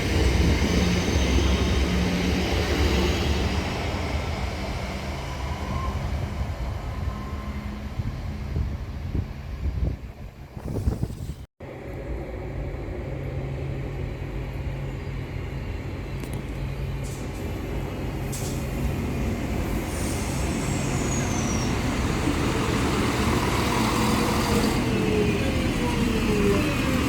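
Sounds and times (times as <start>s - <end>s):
passenger train approaching: 0.0s - 10.5s, 11.6s - 27.0s.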